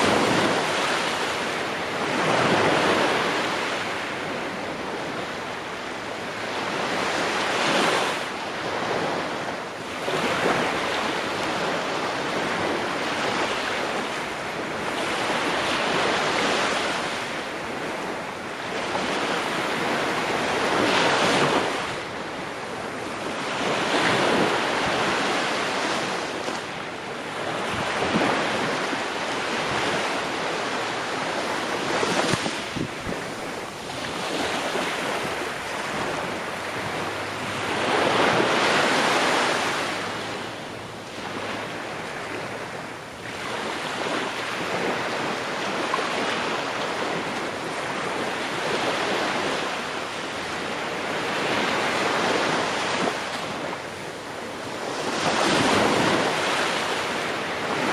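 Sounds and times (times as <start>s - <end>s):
ocean waves breaking on shore: 0.0s - 57.9s.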